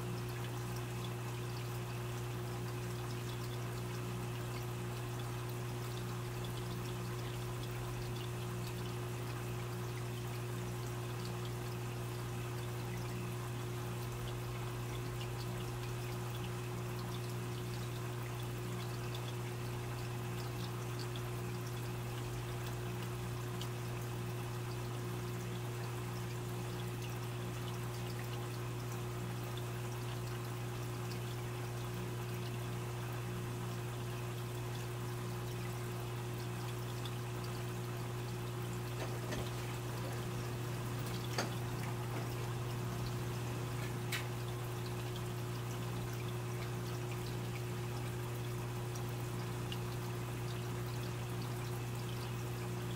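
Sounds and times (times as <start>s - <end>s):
filter motor hum: 0.0s - 52.9s
water trickling and splashing: 0.0s - 52.9s.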